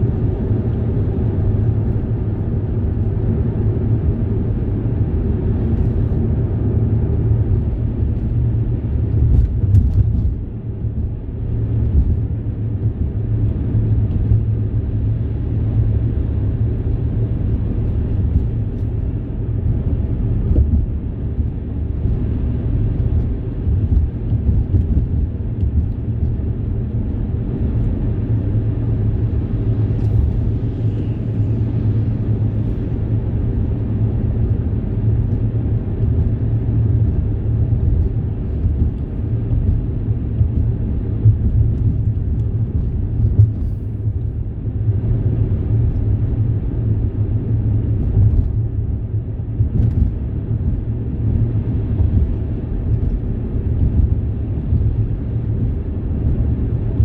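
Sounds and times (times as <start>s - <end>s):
low rumble of moving vehicle: 0.0s - 57.0s.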